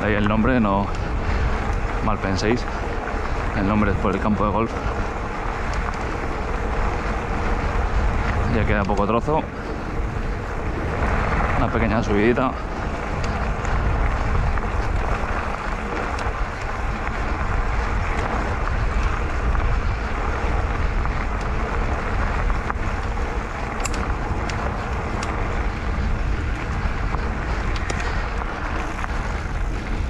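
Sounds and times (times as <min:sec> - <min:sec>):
tyres rolling on dirt trail: 0:00.0 - 0:30.0
wind on microphone: 0:00.0 - 0:30.0.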